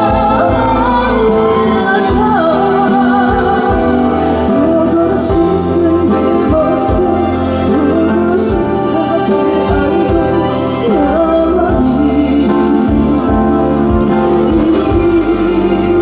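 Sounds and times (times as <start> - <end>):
backing band: 0.0 - 16.0
woman singing with vibrato: 0.0 - 16.0.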